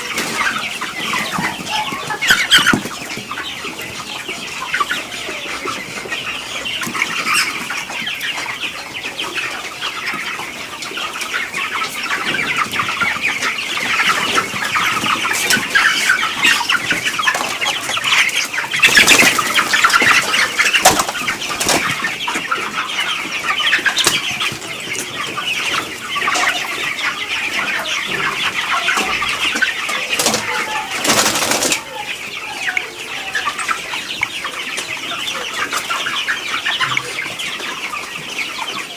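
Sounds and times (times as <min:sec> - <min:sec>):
chickens peeping and clucking: 0:00.0 - 0:38.9.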